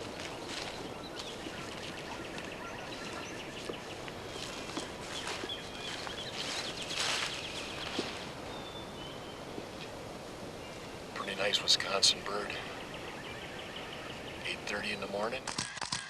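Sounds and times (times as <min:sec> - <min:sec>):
songbirds singing: 0:00.0 - 0:15.4.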